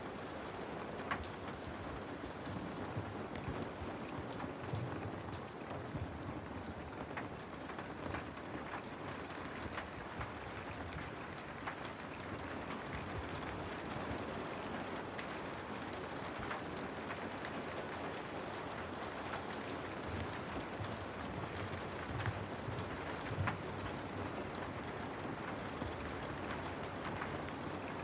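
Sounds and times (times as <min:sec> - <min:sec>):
raindrops ticking on window: 0:00.0 - 0:28.0
steady rain hiss: 0:00.0 - 0:28.0.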